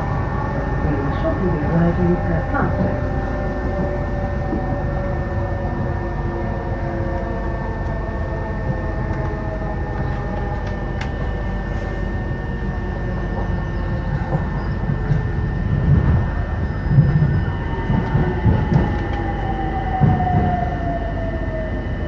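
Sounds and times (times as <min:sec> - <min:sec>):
electric train rumbling and whining: 0:00.0 - 0:22.0.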